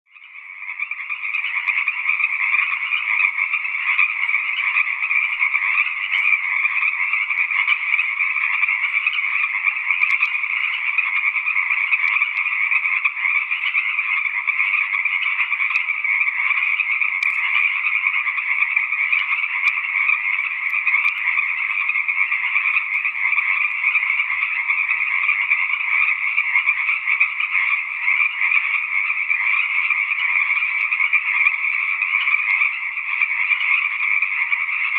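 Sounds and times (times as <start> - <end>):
chorus of frogs calling: 0.1 - 34.9.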